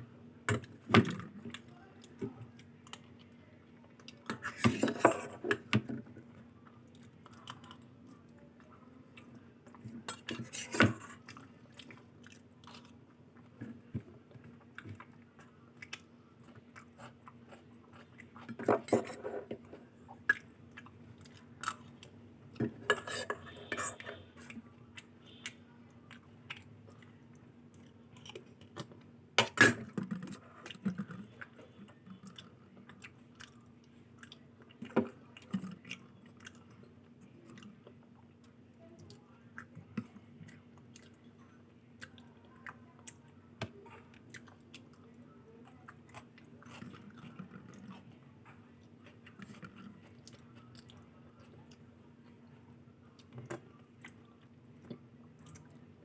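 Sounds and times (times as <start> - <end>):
chewing and wet mouth sounds: 6.3 - 56.0.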